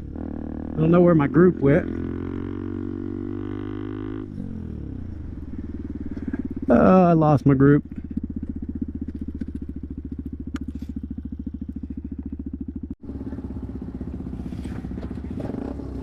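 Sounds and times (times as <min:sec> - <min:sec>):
small motorcycle engine running: 0:00.0 - 0:16.0.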